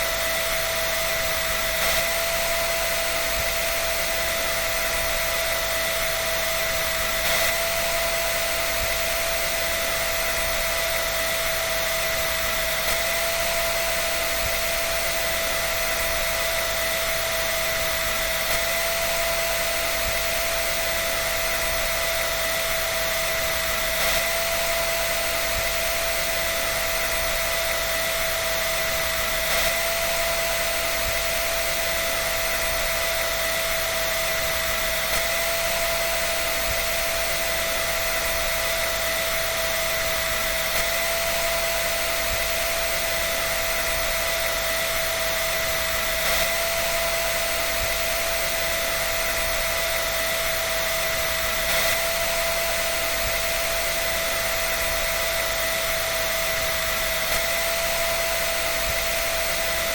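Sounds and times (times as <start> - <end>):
electric dryer running: 0.0 - 59.9.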